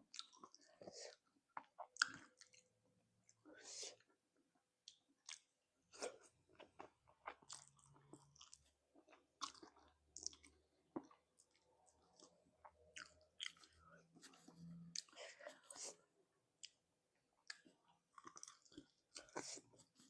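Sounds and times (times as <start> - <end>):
person chewing with wet smacks: 0.1 - 4.2, 4.8 - 16.0, 16.6 - 16.8, 17.4 - 20.0.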